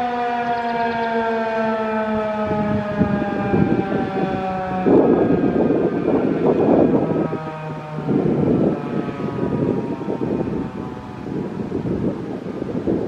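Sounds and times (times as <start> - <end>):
warning siren winding down: 0.0 - 13.0
wind buffeting microphone: 0.0 - 13.0.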